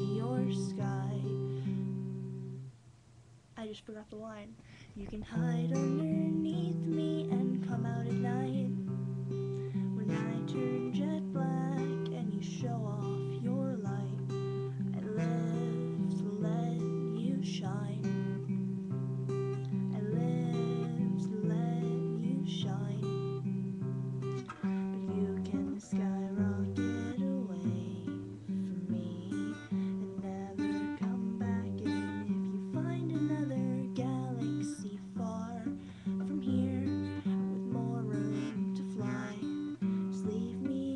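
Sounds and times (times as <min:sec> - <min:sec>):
acoustic guitar strumming chords: 0:00.0 - 0:02.8, 0:04.1 - 0:40.9.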